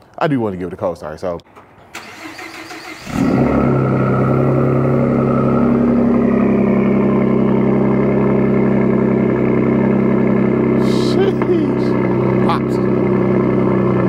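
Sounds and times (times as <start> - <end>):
truck engine starting and running: 1.5 - 14.0.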